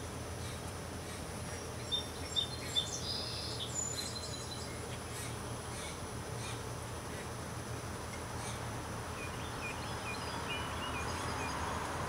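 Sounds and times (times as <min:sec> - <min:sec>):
steady low hum: 0:00.0 - 0:12.0
small birds chirping: 0:00.4 - 0:07.3, 0:08.4 - 0:12.0.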